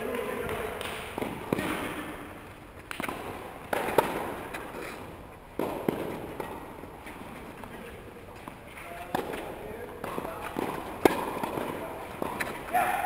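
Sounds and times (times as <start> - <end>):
tennis balls struck by rackets: 0.0 - 13.0.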